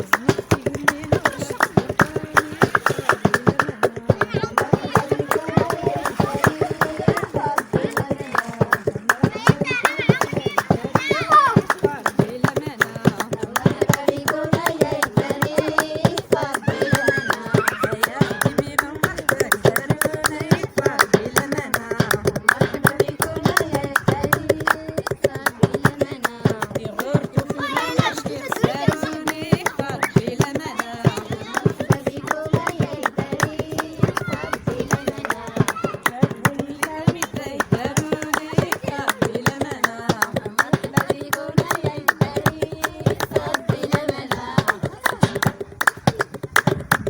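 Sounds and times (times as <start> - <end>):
hand claps percussion: 0.0 - 47.0
voices singing together: 0.0 - 47.0.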